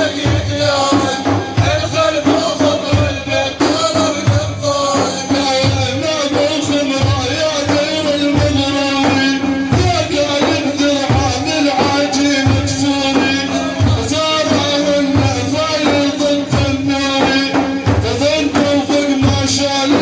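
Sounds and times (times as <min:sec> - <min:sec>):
low drum beat: 0:00.0 - 0:20.0.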